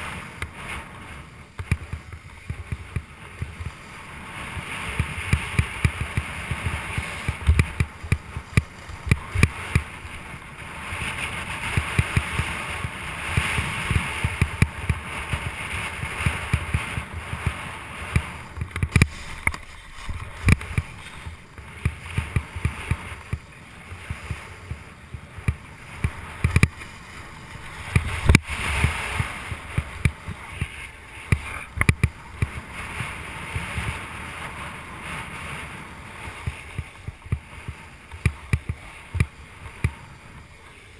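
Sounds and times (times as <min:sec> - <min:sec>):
snowboard scraping snow: 0:00.0 - 0:40.9.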